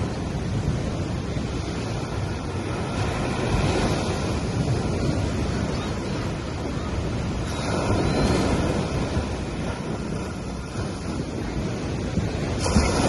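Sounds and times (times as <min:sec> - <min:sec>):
gentle waves on sandy beach: 0:00.0 - 0:13.0.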